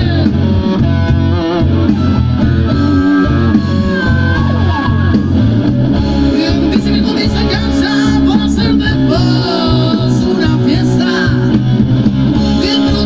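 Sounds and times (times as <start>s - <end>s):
live blues-rock band: 0.0s - 13.0s.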